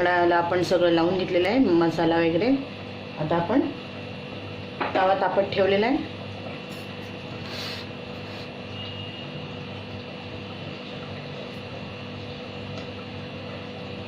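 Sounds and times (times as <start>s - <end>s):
kitchen background hum and hiss: 0.0s - 14.0s.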